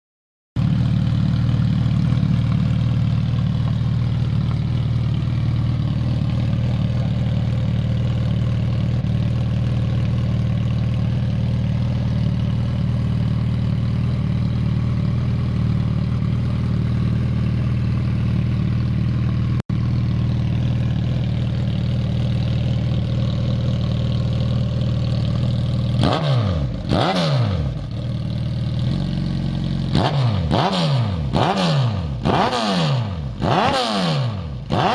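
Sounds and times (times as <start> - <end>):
motorcycle engine idling and revving: 0.6 - 34.9.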